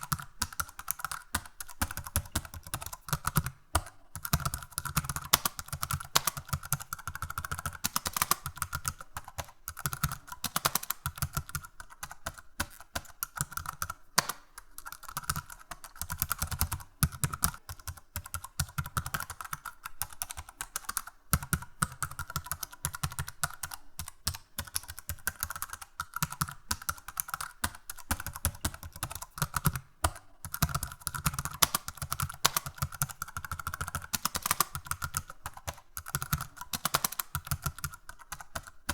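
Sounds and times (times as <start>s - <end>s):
keyboard typing clicks: 0.0s - 38.9s.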